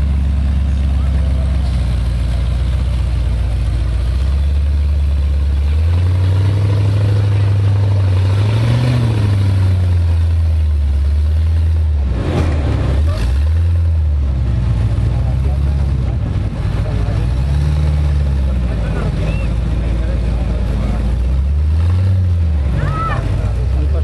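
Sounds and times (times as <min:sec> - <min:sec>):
engine working under load: 0:00.0 - 0:24.0.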